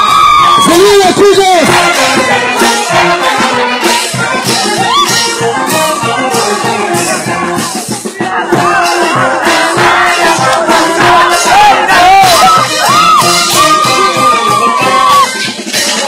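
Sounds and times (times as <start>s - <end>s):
crowd voices: 0.0s - 16.0s
live band music: 0.0s - 16.0s.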